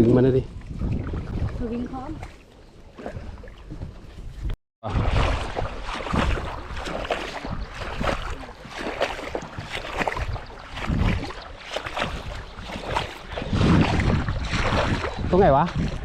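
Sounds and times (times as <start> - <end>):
water rushing around boat: 0.0 - 16.0
wind: 0.0 - 16.0.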